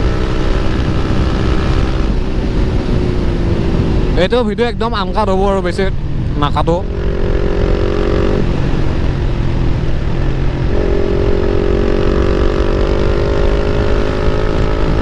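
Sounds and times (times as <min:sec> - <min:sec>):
motorcycle engine accelerating: 0:00.0 - 0:04.4, 0:06.0 - 0:15.0
wind rumble on microphone: 0:00.0 - 0:15.0.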